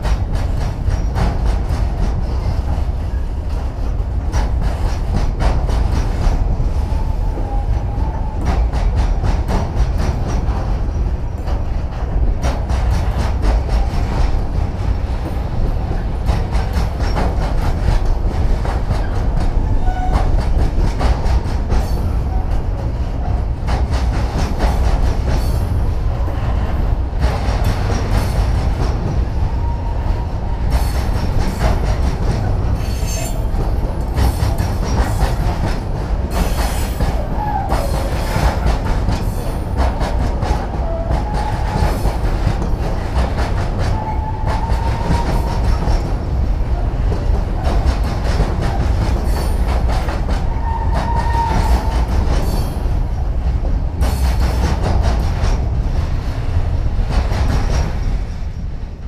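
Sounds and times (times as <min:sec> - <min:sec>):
train wheel clicks: 0:00.0 - 0:06.5, 0:07.4 - 0:26.4, 0:27.1 - 0:29.6, 0:30.7 - 0:53.0
freight train rumbling: 0:00.0 - 0:59.0.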